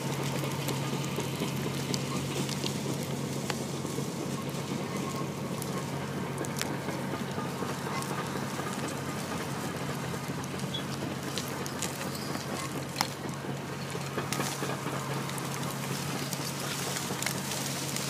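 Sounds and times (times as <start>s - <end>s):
diesel engines droning: 0.0s - 18.0s.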